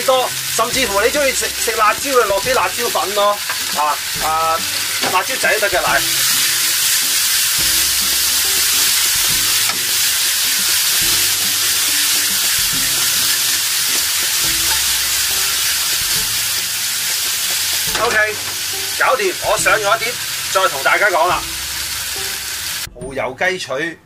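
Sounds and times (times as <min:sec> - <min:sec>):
chicken sizzling in a wok: 0:00.0 - 0:22.9.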